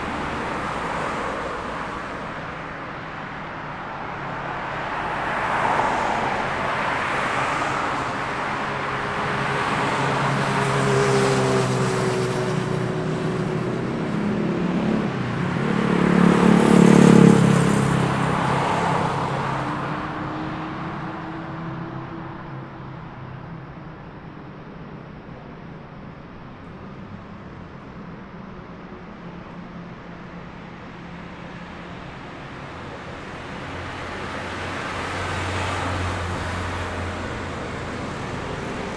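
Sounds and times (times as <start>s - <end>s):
cars passing: 0.0s - 38.9s.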